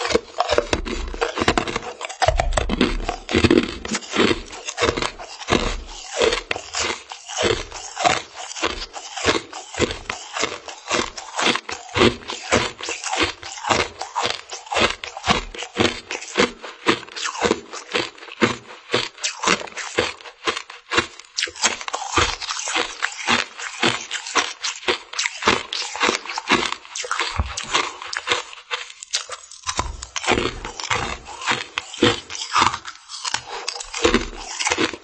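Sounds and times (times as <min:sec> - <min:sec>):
frozen treat crunching: 0:00.0 - 0:35.0.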